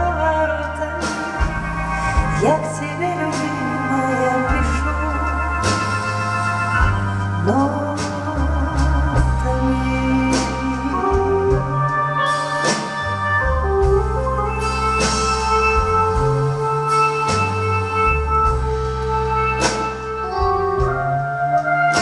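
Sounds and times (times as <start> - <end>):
electronic keyboard organ chords: 0.0 - 22.0.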